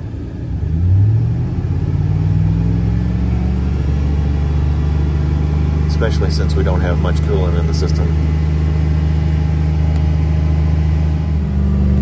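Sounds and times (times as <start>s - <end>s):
truck engine revving: 0.5s - 12.0s.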